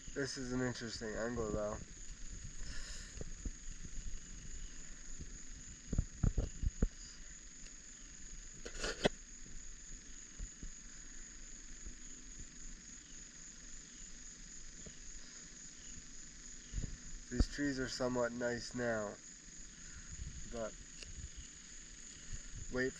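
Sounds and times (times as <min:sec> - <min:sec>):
crickets chirring: 0:00.0 - 0:22.9.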